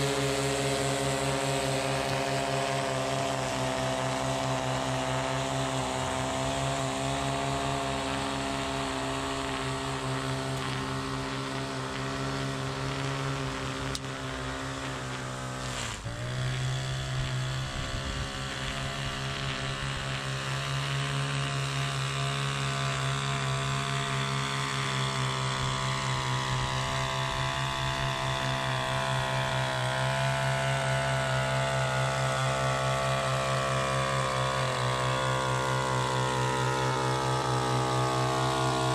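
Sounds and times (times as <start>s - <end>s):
string trimmer engine revving: 0.0s - 38.9s.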